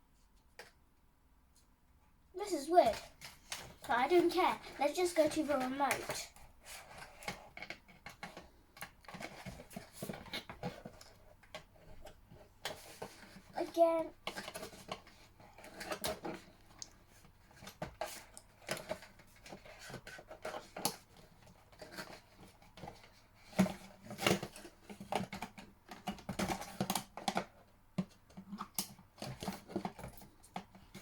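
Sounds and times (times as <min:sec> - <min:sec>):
plastic parts clicking and tapping: 0:02.8 - 0:31.0.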